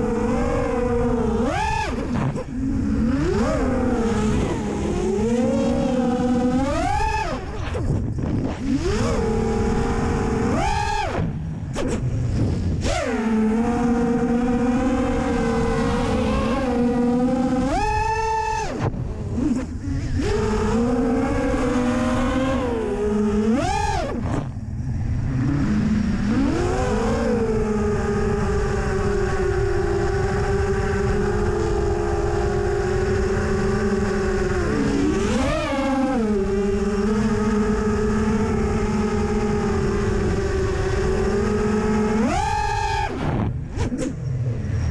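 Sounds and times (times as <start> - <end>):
quadcopter motors buzzing: 0.0 - 44.9.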